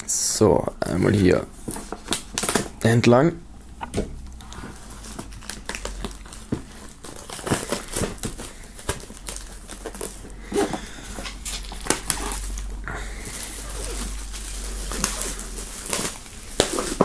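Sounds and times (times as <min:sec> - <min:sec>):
plastic film tearing and crinkling: 0:01.2 - 0:03.0, 0:04.2 - 0:17.0.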